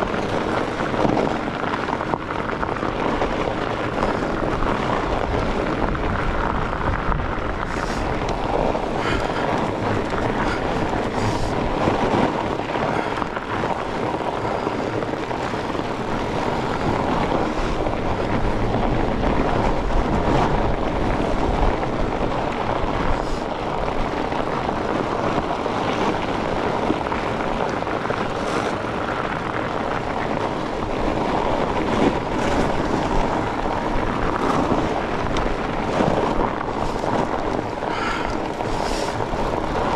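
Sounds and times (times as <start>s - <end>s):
bike clicks and rattles: 0.0s - 39.9s
wide bike tyres rumbling on snow: 0.0s - 39.9s
wind on microphone: 0.0s - 39.9s.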